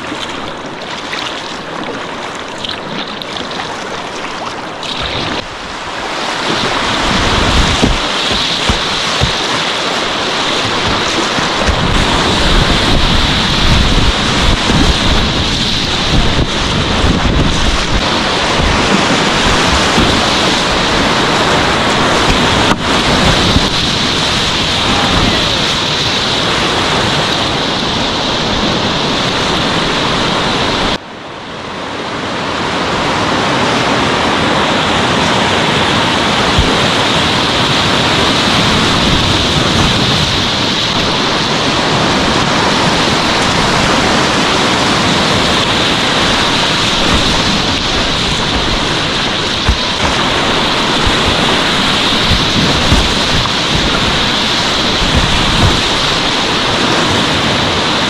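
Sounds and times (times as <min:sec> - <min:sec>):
whitewater rushing: 0:00.0 - 0:58.0.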